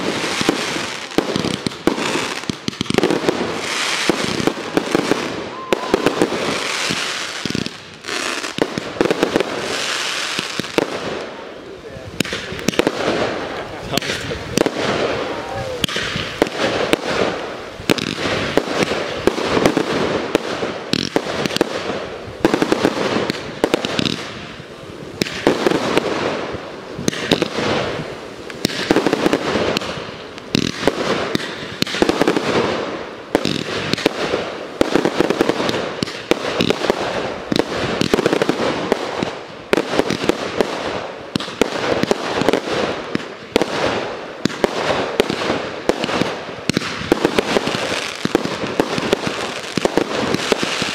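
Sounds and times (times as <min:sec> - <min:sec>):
fireworks bursting: 0:00.0 - 0:50.9.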